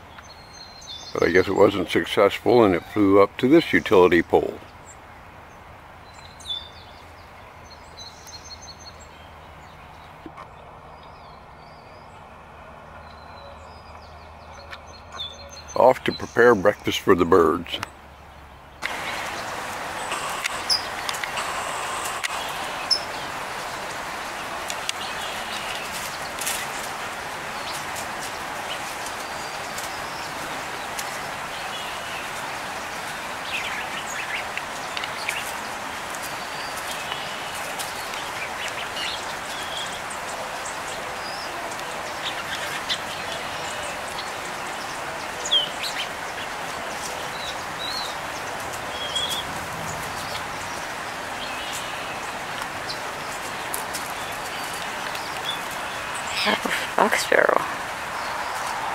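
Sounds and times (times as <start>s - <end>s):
background hiss: 0.0s - 58.9s
songbirds chirping: 0.0s - 58.9s.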